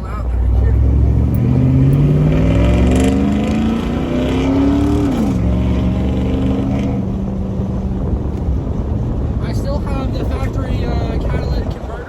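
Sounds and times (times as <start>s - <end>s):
engine accelerating with gear shift: 0.0s - 12.0s.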